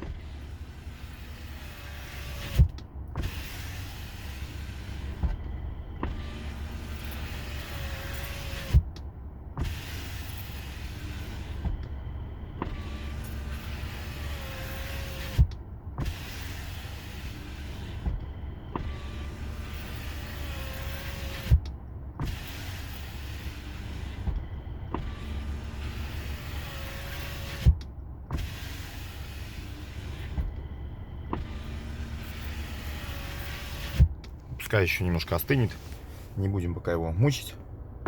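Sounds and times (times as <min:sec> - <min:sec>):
window motor whirring: 0:00.0 - 0:36.3.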